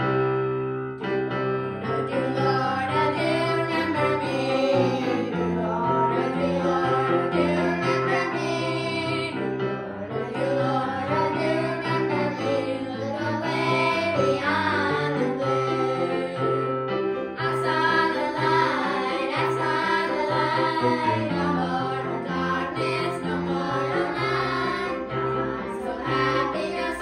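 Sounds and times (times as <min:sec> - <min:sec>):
girls singing gospel song: 0:01.8 - 0:27.0.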